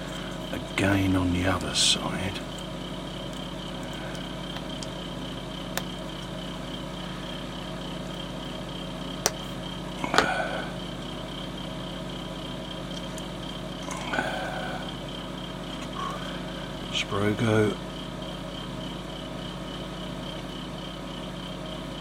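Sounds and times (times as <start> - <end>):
low hum with high whine: 0.0 - 22.0.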